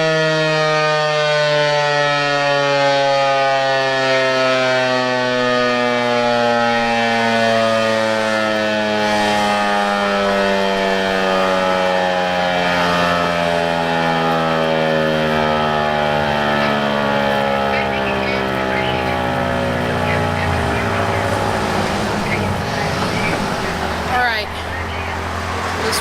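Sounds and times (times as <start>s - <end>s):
tornado siren winding down: 0.0s - 26.0s.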